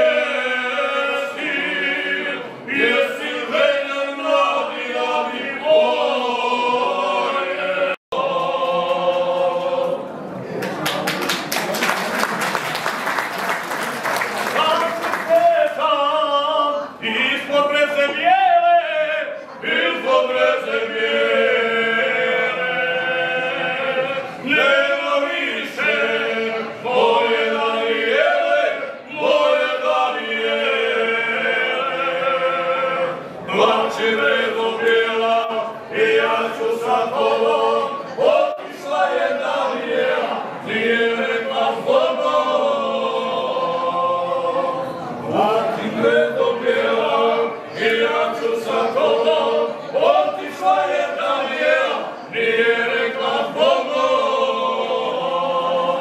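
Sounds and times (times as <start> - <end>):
men singing unaccompanied: 0.0 - 10.0, 14.6 - 56.0.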